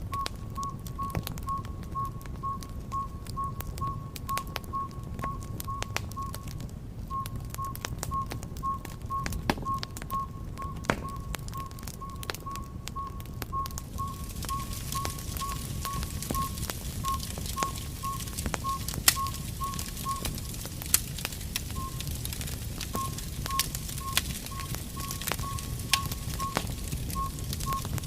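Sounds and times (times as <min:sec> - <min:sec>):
low rumble: 0:00.0 - 0:28.0
wood fire crackling and popping: 0:00.0 - 0:28.0.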